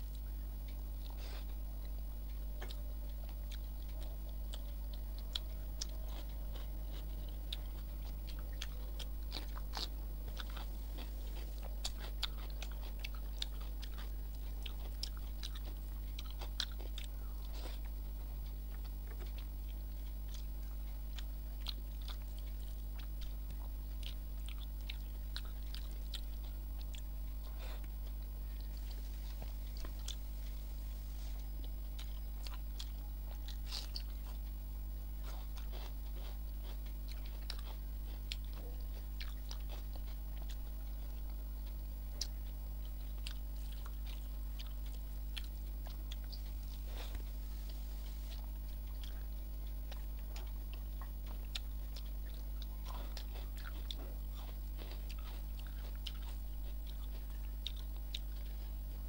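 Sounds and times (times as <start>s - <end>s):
chewing with mouth clicks: 0.0s - 59.0s
steady low hum: 0.0s - 59.0s.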